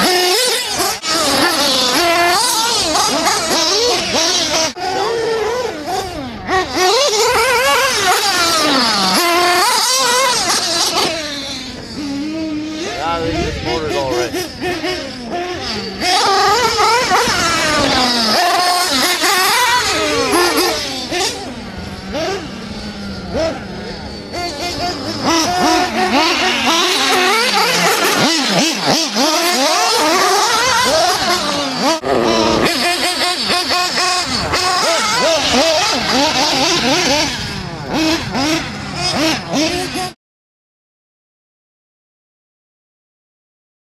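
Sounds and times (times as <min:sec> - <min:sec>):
radio-control cars revving: 0:00.0 - 0:40.2.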